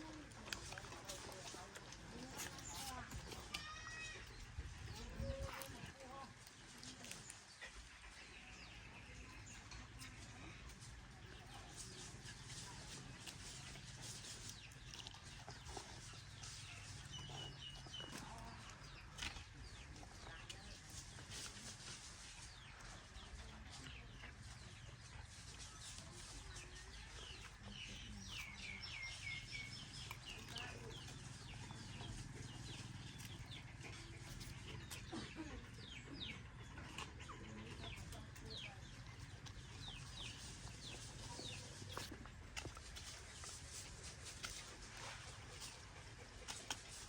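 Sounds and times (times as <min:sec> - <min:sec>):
birds chirping: 0:00.0 - 0:21.2, 0:25.9 - 0:47.0.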